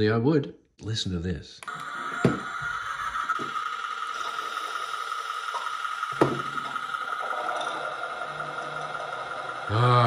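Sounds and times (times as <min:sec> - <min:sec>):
steady high tone: 0:01.7 - 0:10.0.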